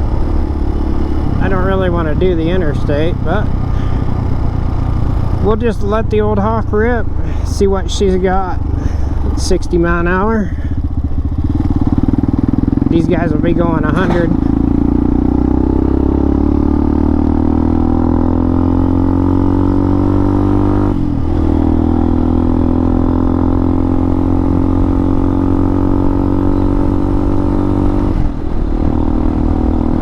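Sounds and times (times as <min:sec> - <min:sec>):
motorcycle engine at full throttle: 0:00.0 - 0:30.0.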